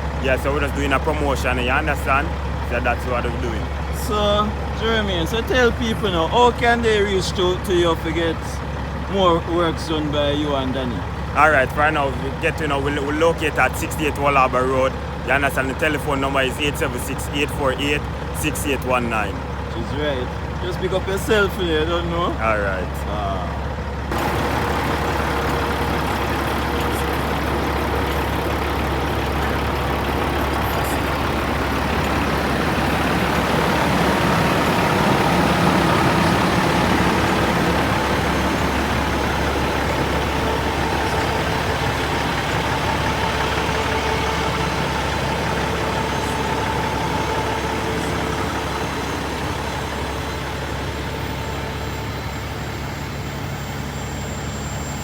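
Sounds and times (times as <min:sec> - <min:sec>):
heavy truck engine running: 0:00.0 - 0:55.0.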